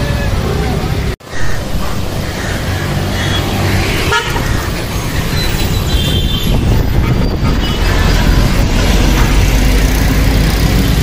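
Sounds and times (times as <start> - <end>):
loud rumble of passing vehicles: 0.0 - 11.0.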